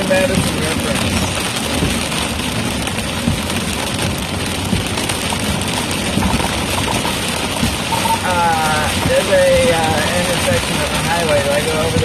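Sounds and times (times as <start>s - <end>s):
rain hitting car: 0.0s - 12.0s
road noise: 0.0s - 12.0s.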